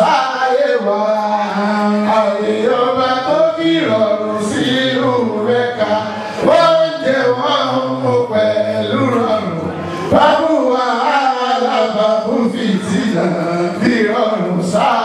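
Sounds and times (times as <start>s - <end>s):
man singing chant-like melody: 0.0s - 15.0s.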